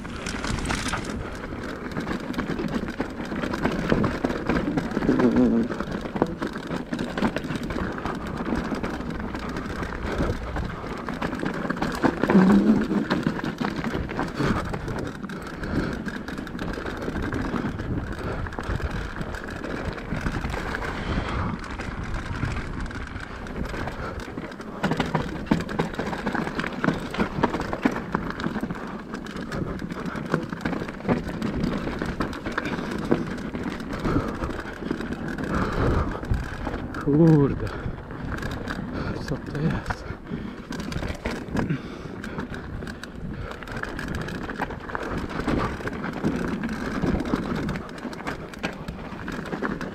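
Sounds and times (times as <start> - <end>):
bike rattling and knocking: 0.0 - 49.9
tyres rushing over dirt and rock: 0.0 - 49.9.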